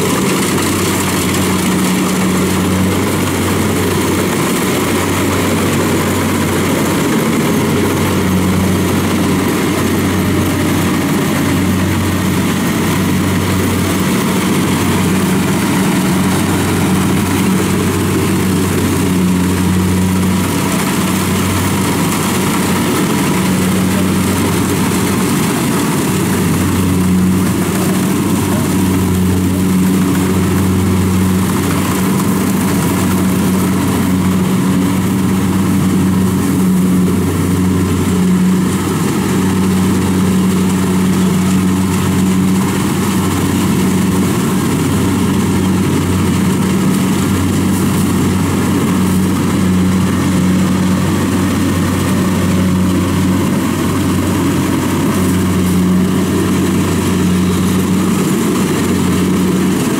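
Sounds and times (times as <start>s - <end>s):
combine harvester engine drone: 0.0s - 59.9s
mechanical rush: 0.0s - 59.9s.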